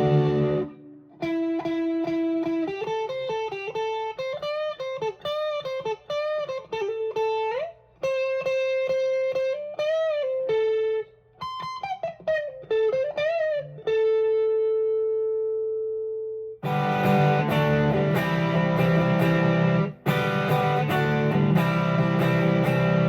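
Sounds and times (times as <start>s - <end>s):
overdriven electric guitar lead: 0.0s - 23.0s.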